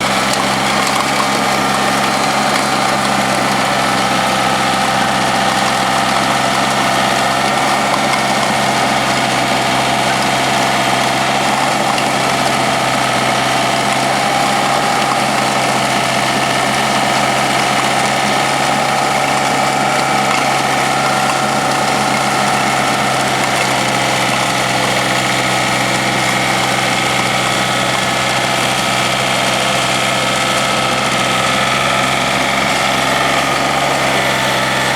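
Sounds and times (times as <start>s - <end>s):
tractor engine droning: 0.0s - 34.9s.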